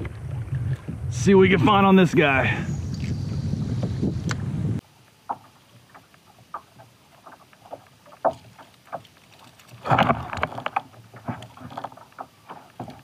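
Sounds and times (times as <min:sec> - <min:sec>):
water lapping against kayak hull: 0:00.0 - 0:13.0.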